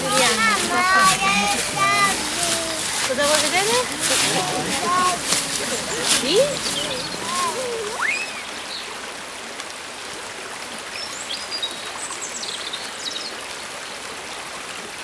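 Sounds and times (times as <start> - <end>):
stream running: 0.0 - 15.0.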